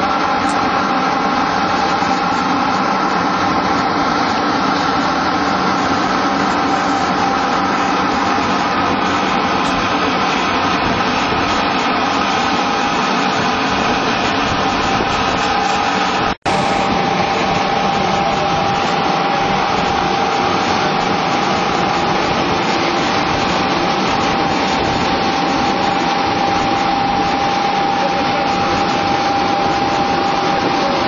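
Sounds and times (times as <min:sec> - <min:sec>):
high-pitched machine whine: 0:00.0 - 0:31.0
machine hum and rattle: 0:00.0 - 0:31.0.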